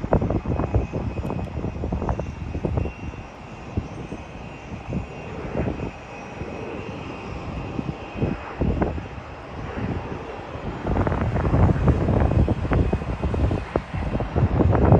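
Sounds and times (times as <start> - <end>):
airliner engine hiss and whine: 0.0 - 14.9
wind buffeting microphone: 0.0 - 14.9.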